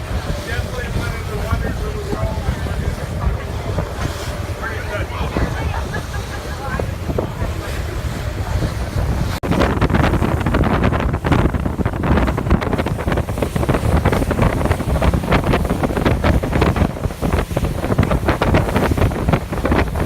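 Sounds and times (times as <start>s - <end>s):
boat engine rumble: 0.0s - 20.0s
ocean waves: 0.0s - 20.0s
wind buffeting microphone: 0.0s - 20.0s.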